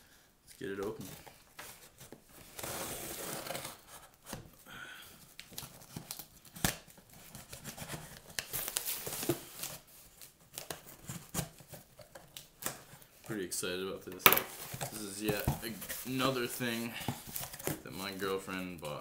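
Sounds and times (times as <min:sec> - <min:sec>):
tape and cardboard rustling: 0:00.6 - 0:04.6, 0:05.3 - 0:13.3, 0:14.1 - 0:19.0.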